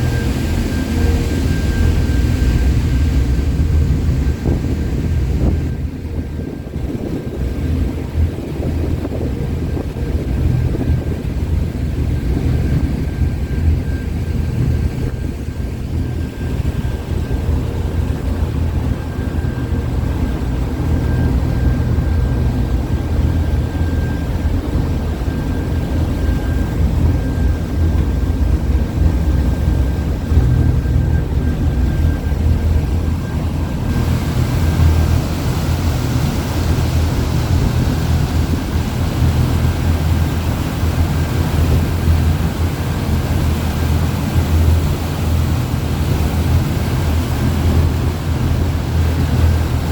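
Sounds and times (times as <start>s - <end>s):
faint high whine: 0.0s - 8.7s, 9.3s - 49.9s
boat engine humming: 0.0s - 49.9s.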